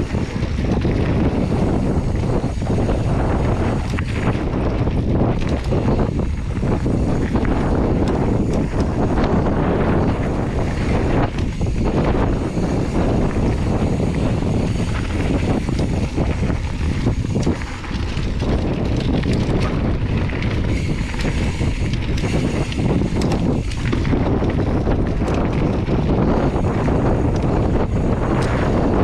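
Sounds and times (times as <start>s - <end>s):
bike rattling: 0.0s - 29.0s
tyres rumbling on dirt: 0.0s - 29.0s
wind buffeting microphone: 0.0s - 29.0s.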